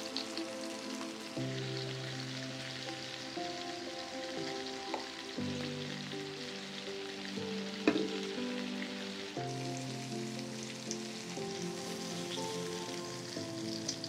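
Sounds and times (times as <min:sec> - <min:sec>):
background music notes: 0:00.0 - 0:14.0
meatballs sizzling in oil: 0:00.0 - 0:14.0.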